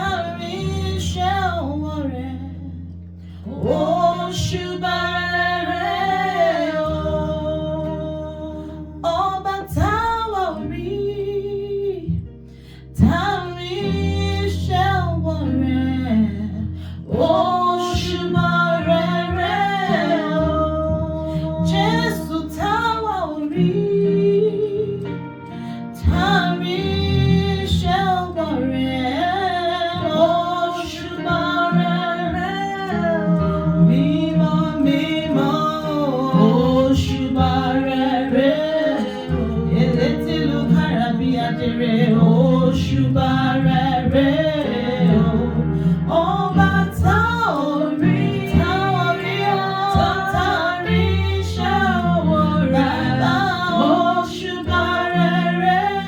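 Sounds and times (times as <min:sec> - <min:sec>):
instrumental backing: 0:00.0 - 0:56.0
woman singing slow melody: 0:00.0 - 0:56.0.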